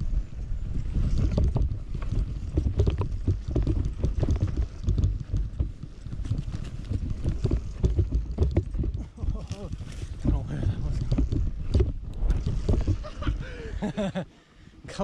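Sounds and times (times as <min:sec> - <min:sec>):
tyres rumbling over dirt: 0:00.0 - 0:14.2
wind buffeting microphone: 0:00.0 - 0:14.2
bike knocks and rattles: 0:00.6 - 0:14.1.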